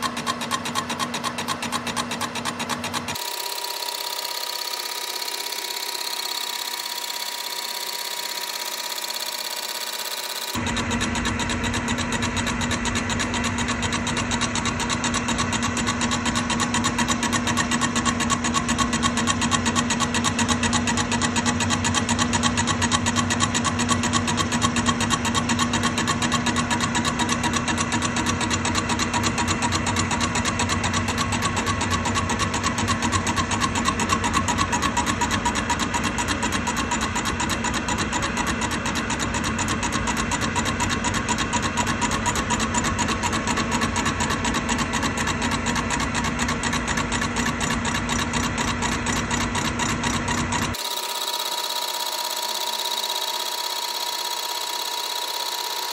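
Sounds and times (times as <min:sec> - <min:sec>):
lathe machine drone: 0:00.0 - 0:55.9.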